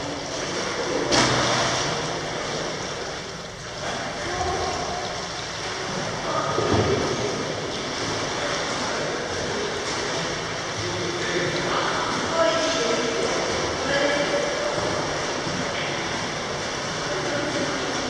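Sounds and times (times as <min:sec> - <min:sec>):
indoor pool water noise: 0:00.0 - 0:18.0.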